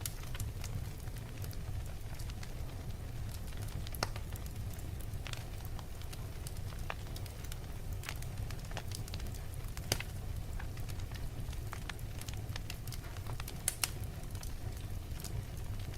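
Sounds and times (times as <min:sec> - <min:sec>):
fire crackling and popping: 0:00.0 - 0:15.9
fire rumbling in a fireplace: 0:00.0 - 0:15.9.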